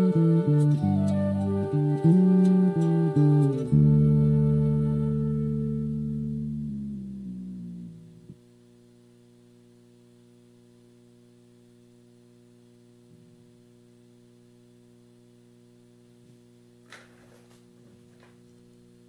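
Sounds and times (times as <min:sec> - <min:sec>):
mains hum: 0:00.0 - 0:19.0.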